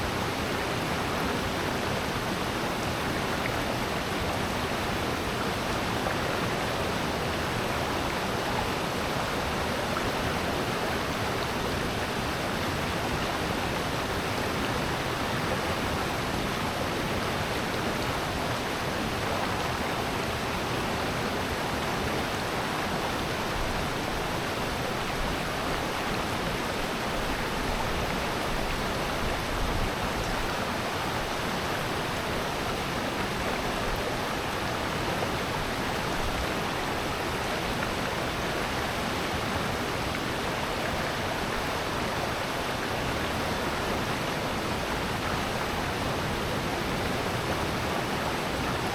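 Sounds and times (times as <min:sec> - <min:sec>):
rushing stream water: 0:00.0 - 0:48.9.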